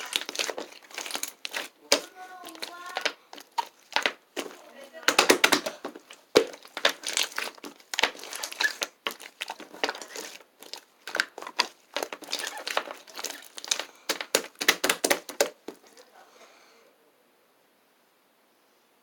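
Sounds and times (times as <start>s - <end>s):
slime squished by hand: 0.0s - 16.0s.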